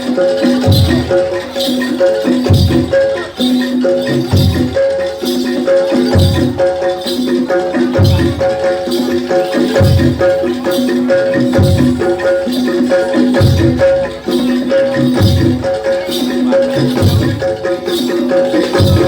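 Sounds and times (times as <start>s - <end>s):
tuned metal percussion notes: 0.0s - 19.0s.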